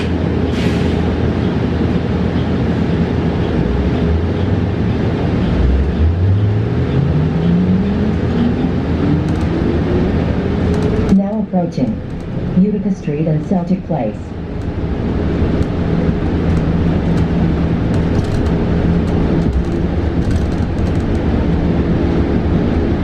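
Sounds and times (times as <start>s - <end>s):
bus cabin hum: 0.0s - 23.0s.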